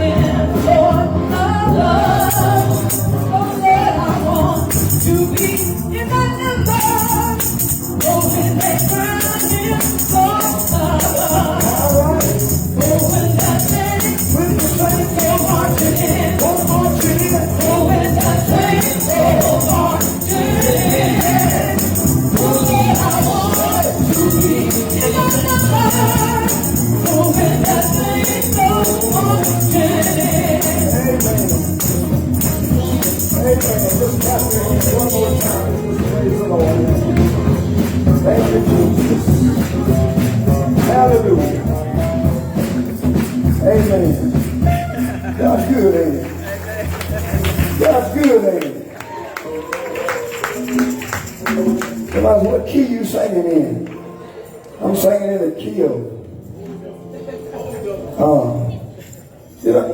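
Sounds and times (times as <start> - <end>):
group singing gospel: 0.0 - 52.1
tambourine shaken: 1.0 - 53.7.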